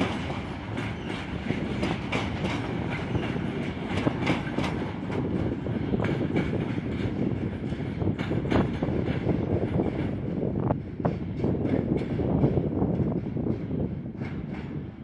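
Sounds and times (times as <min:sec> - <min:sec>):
freight train rumbling: 0:00.0 - 0:15.0
wheels clicking over rail joints: 0:00.0 - 0:15.0.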